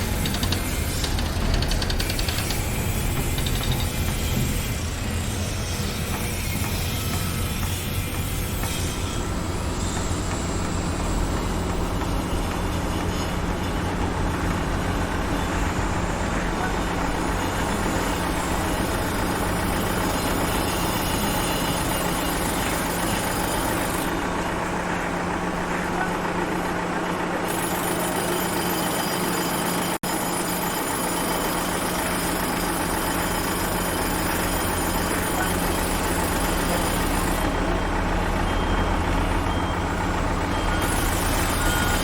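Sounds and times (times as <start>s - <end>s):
construction site noise: 0.0s - 42.0s
heavy engine running: 0.0s - 42.0s.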